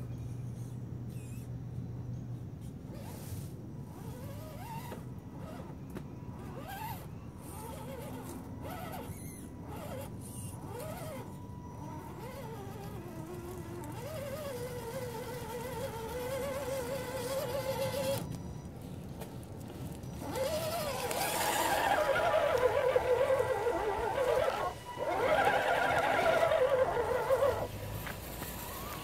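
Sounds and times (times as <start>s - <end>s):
toy truck electric motor whining: 2.9s - 29.0s.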